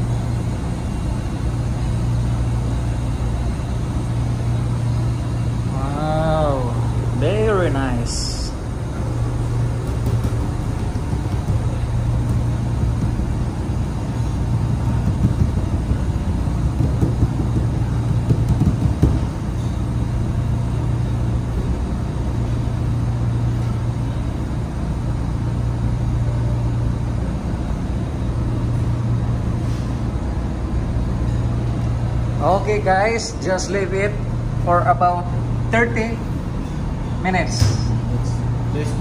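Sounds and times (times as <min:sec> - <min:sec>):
low machinery hum: 0:00.0 - 0:39.0.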